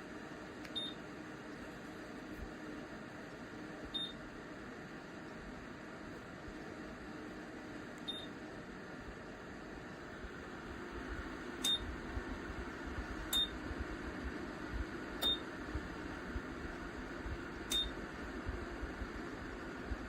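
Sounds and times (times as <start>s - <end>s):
fan heater air rush: 0.0s - 20.0s.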